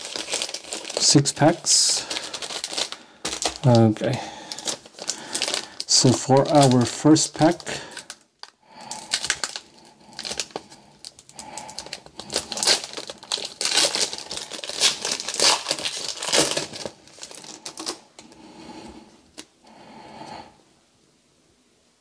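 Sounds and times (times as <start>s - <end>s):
plastic wrapper tearing and crinkling: 0.0s - 18.3s.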